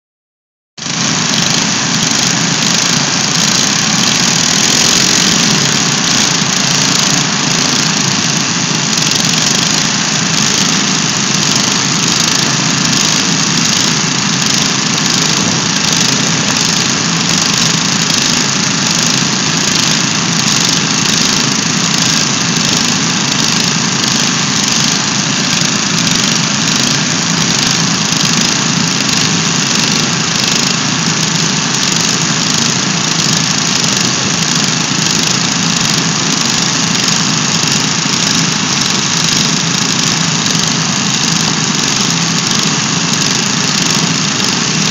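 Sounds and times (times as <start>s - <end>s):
riding lawn mower engines: 0.8s - 44.9s.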